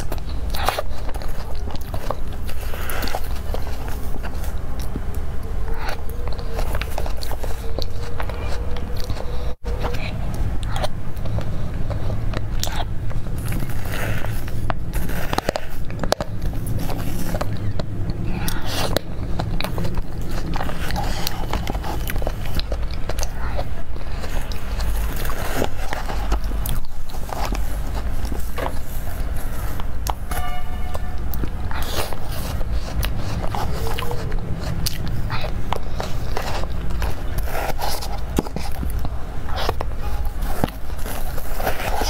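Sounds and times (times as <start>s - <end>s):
steady low hum: 0.0s - 42.0s
wet mouth clicks and chewing: 0.0s - 42.0s
fork scraping through cake: 5.7s - 42.0s.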